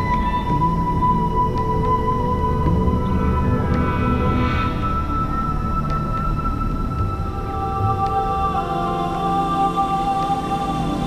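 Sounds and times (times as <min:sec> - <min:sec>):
slow ambient music with drone: 0:00.0 - 0:11.0.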